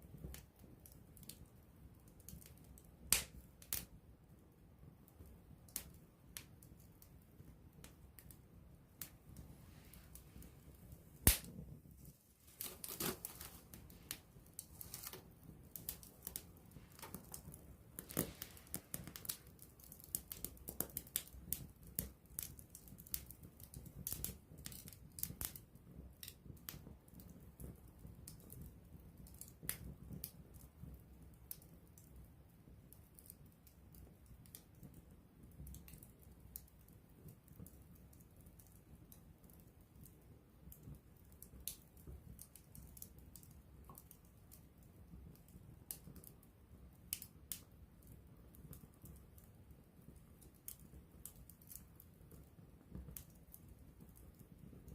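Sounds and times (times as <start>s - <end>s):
campfire crackling and popping: 0.0s - 54.9s
low hiss of burning: 0.0s - 54.9s.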